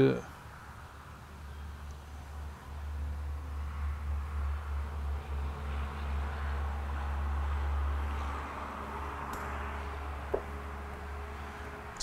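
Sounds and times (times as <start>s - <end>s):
low fan hum: 0.0s - 12.0s.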